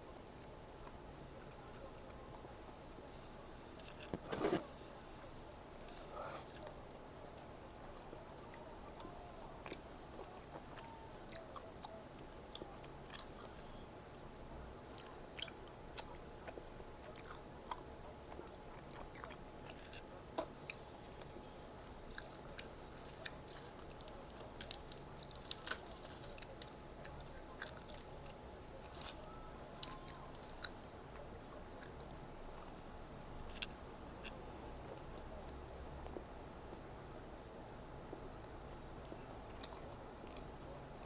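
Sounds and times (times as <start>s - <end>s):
close chewing and crunching: 0.8s - 36.8s, 38.4s - 41.0s.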